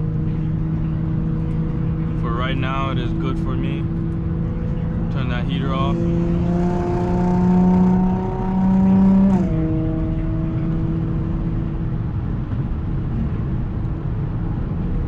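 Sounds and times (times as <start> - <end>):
car engine while driving: 0.0 - 15.0
road noise: 0.0 - 15.0.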